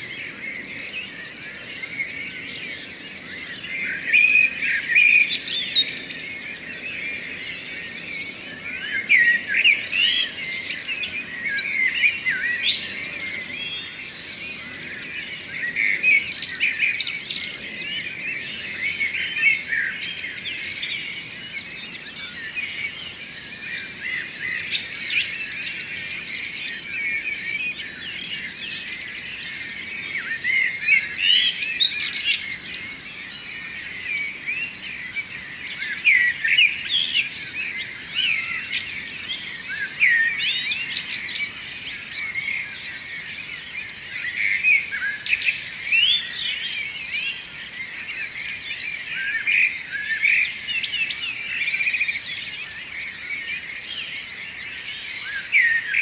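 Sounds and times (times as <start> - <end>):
many birds singing: 0.0 - 56.0.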